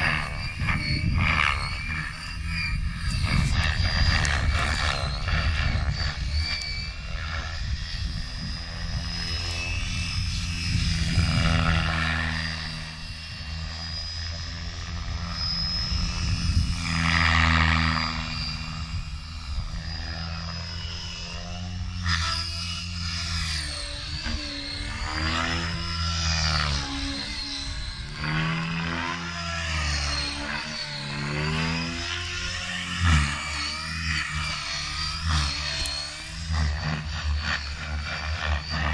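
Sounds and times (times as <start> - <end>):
rc helicopter high whine: 0.0 - 38.9
rotor blades low chop: 0.0 - 38.9.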